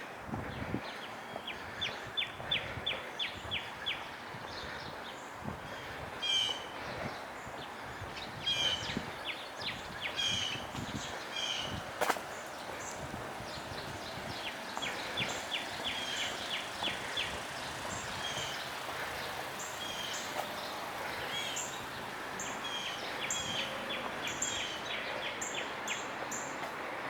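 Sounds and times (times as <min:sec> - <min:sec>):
distant city traffic: 0:00.0 - 0:27.0
small birds chirping: 0:00.5 - 0:26.6.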